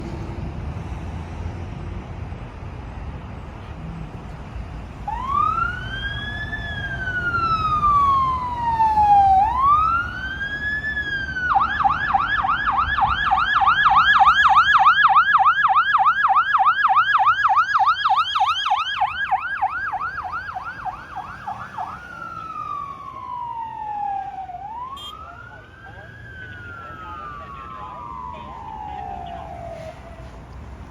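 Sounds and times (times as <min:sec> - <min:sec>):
engine and road rumble: 0:00.0 - 0:30.9
fire engine siren: 0:04.0 - 0:30.9.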